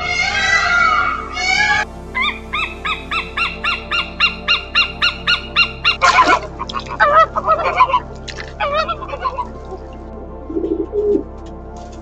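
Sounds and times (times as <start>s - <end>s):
bird honking calls: 0.0s - 9.9s.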